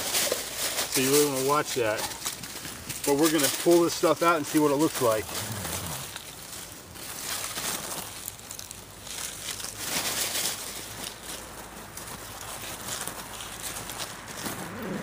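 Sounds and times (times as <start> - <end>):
hands scraping through ash: 0.0 - 15.0.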